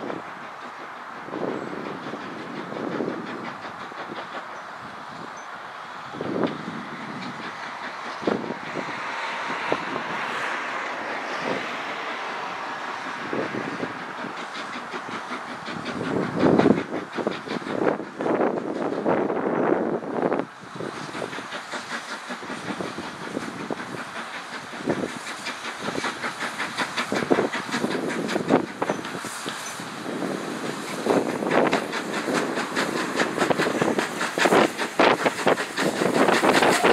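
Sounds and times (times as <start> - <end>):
steam locomotive exhaust hiss: 0.0 - 36.9.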